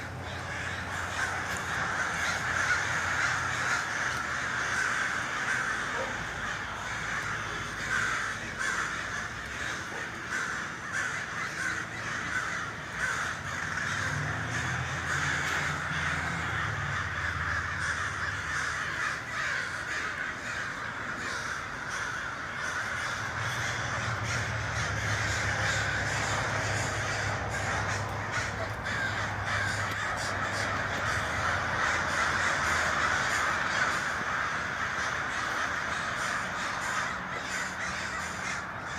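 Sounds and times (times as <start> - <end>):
flock of crows cawing: 0.0 - 38.9.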